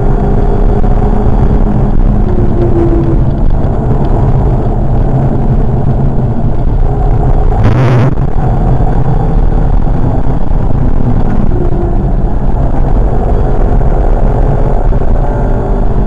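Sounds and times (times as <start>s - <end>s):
car engine pulling at speed: 0.0s - 16.0s
tyre and road noise: 0.0s - 16.0s.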